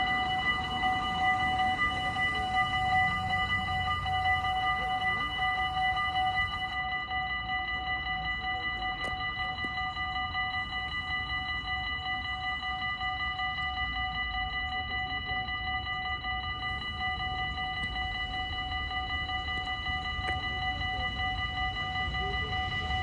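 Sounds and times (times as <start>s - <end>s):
level crossing warning bells: 0.0s - 23.0s.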